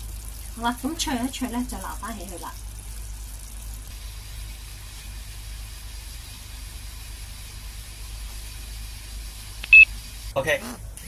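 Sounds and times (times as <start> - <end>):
pot of water boiling: 0.0 - 10.4.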